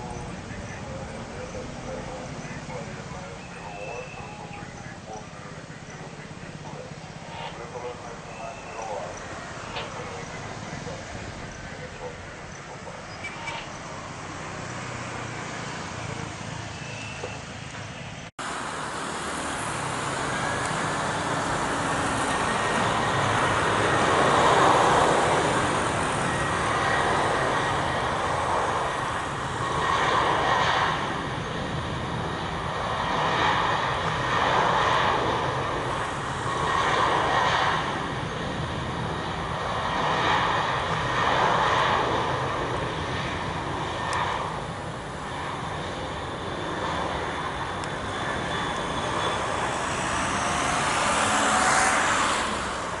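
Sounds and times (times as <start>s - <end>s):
faint steady whine: 0.0s - 15.2s, 16.0s - 53.0s
jet engine roar: 0.0s - 53.0s.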